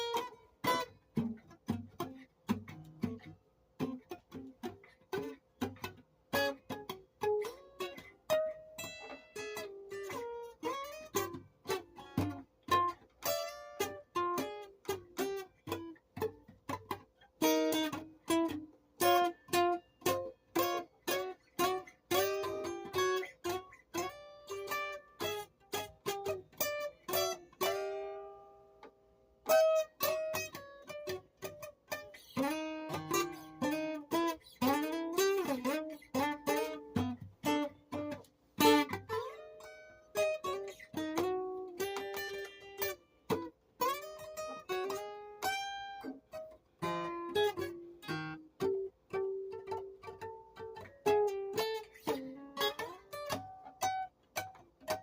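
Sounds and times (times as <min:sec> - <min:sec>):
plucked string instrument: 0:00.0 - 0:55.0.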